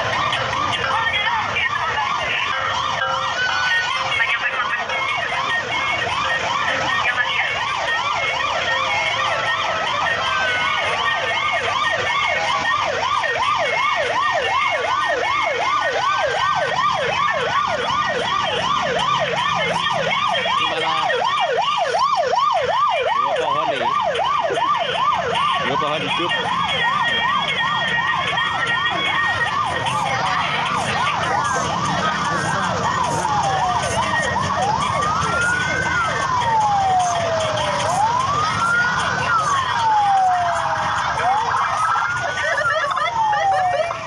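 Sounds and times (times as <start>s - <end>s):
sirens yelping: 0.0s - 44.0s.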